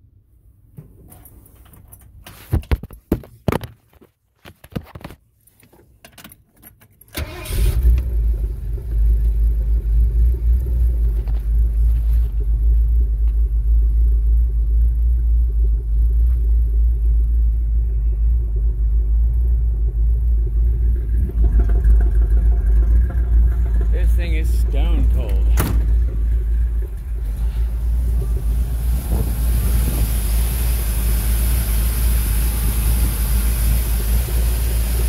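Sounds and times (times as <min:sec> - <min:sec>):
car engine starting and idling: 0:06.9 - 0:35.0.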